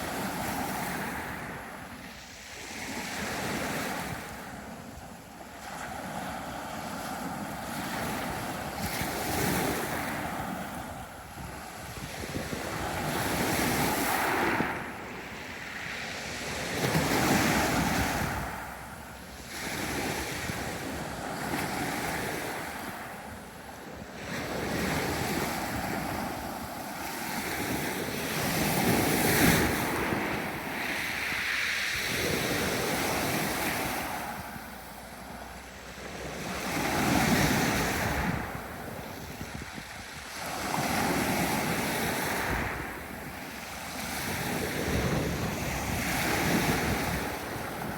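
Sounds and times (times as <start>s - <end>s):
sea waves breaking on beach: 0.0s - 47.9s.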